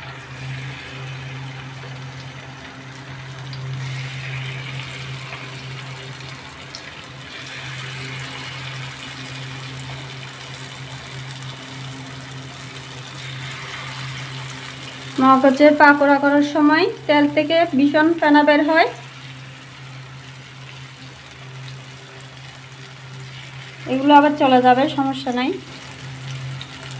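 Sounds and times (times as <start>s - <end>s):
deep-frying sizzle and crackles: 0.0s - 26.9s
low hum: 0.0s - 26.9s.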